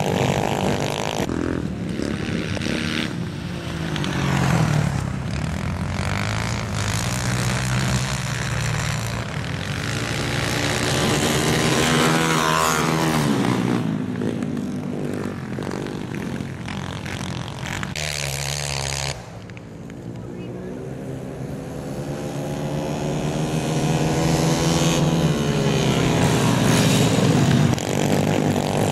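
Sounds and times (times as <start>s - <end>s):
racing motorcycle engines revving: 0.0s - 28.9s.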